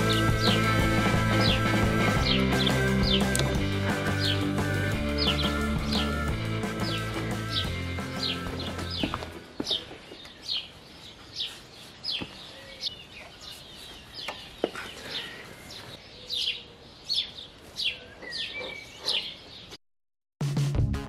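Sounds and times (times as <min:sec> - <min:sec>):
bird chirping: 0:00.0 - 0:19.8.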